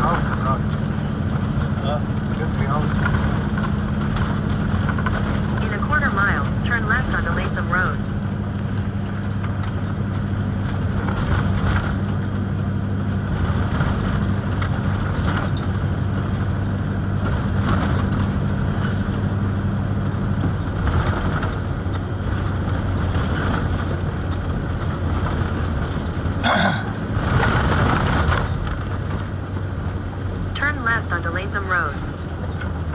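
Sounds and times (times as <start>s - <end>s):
vehicle engine humming: 0.0s - 32.9s.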